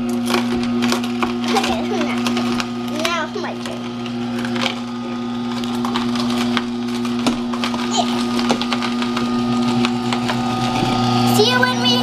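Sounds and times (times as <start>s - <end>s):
juicer motor hum: 0.0s - 12.0s.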